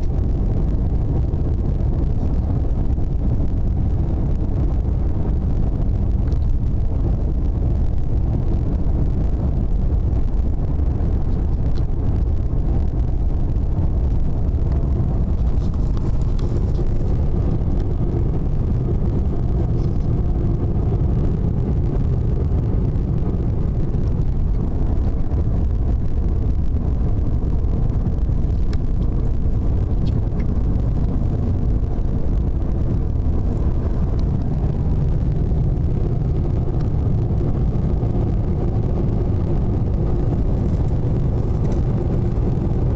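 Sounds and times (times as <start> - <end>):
vehicle cabin road rumble: 0.0 - 42.9.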